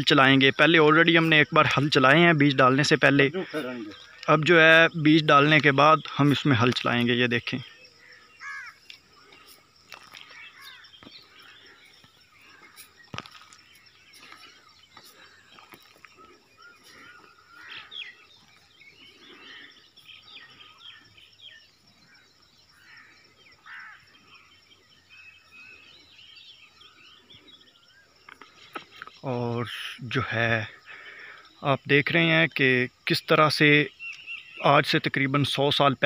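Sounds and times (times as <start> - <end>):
small birds twittering: 0.0 - 36.0.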